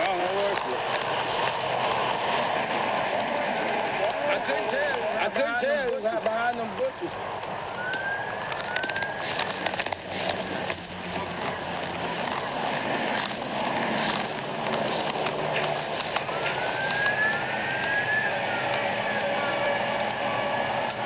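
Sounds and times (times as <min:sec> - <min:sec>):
vehicle road and engine noise: 0:00.0 - 0:21.0
wind: 0:00.0 - 0:21.0.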